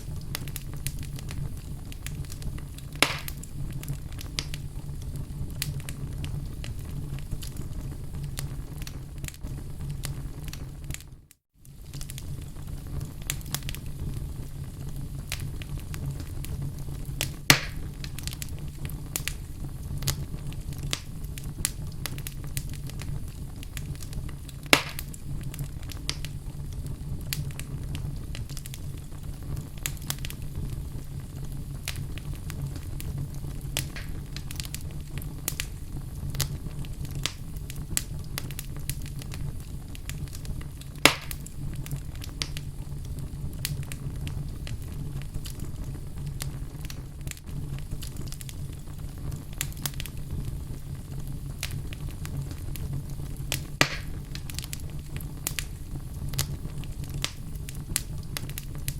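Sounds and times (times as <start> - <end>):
fire crackling in fireplace: 0.0 - 58.9
loud fire pops: 0.0 - 58.9
low rumble of flames: 0.0 - 58.9.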